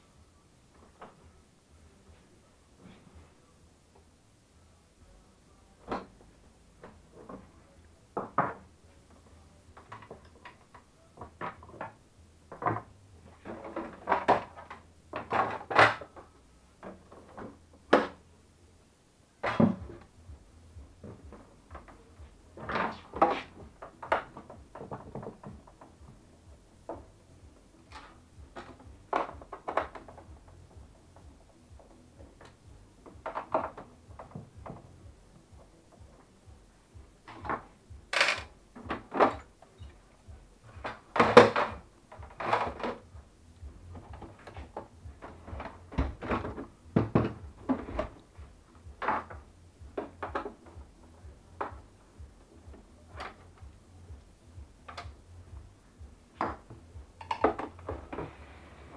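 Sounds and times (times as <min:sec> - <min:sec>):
faint low hum: 0:00.0 - 0:58.9.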